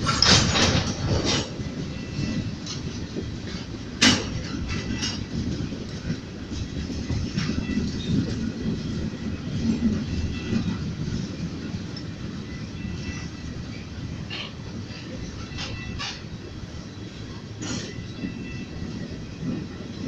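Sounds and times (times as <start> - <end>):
freight train rumbling: 0.0 - 20.0.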